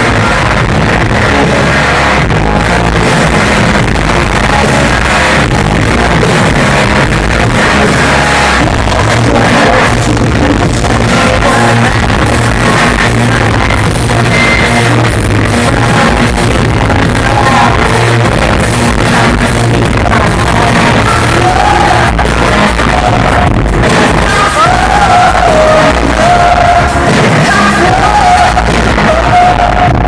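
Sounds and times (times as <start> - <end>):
live rock band playing: 0.0 - 30.0
person singing: 0.0 - 30.0.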